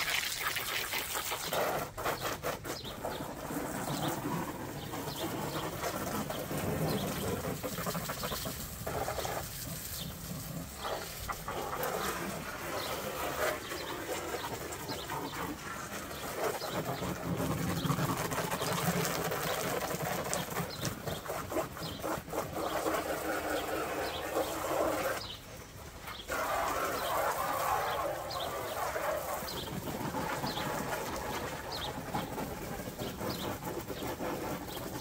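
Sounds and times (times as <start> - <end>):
hose spray splashing on vinyl: 0.0 - 35.0.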